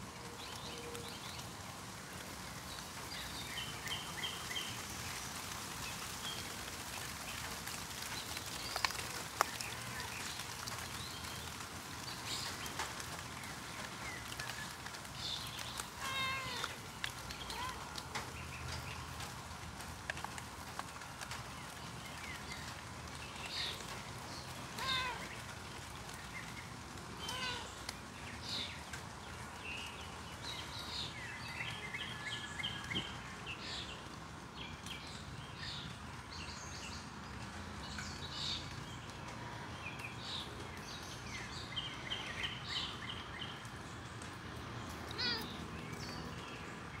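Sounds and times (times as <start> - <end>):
steady outdoor hiss: 0.0 - 47.0.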